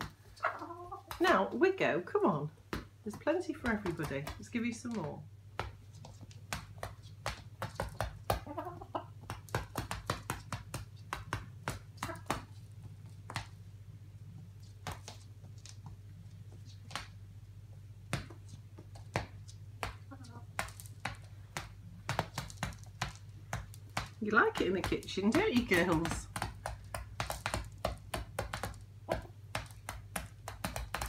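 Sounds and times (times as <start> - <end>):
hens pecking on wooden floor: 0.0 - 31.0.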